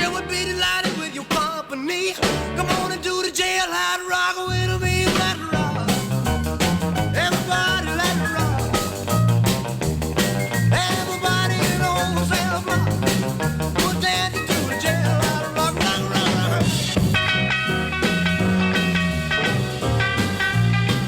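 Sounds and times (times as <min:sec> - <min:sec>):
upbeat rock and roll music: 0:00.0 - 0:21.0.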